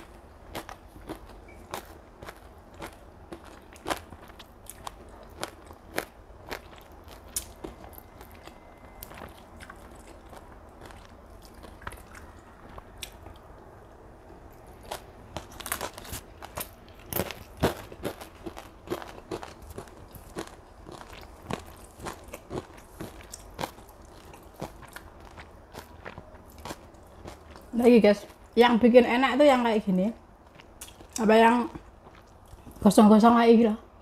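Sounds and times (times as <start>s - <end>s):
person chewing and smacking: 0.0s - 27.7s, 30.4s - 32.8s.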